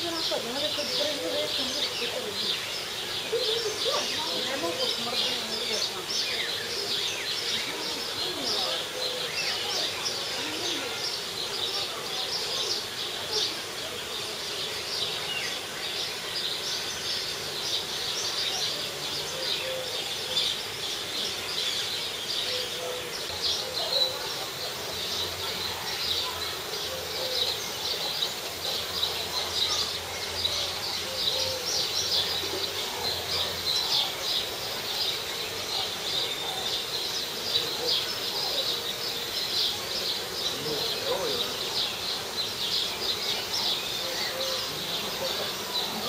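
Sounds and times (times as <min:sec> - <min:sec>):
small birds twittering: 0:00.0 - 0:46.0.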